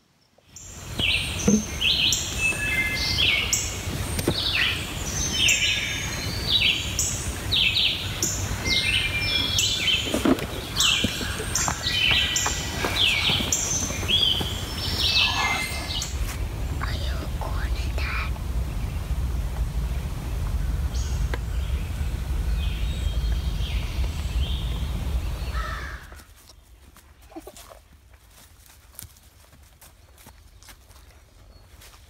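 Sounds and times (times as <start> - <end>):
songbirds singing: 0.2 - 27.6
steady low rumble: 0.6 - 27.2.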